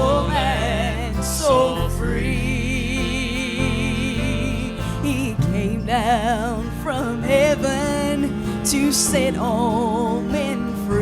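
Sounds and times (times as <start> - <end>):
low instrumental accompaniment: 0.0 - 11.0
person singing with vibrato: 0.0 - 11.0.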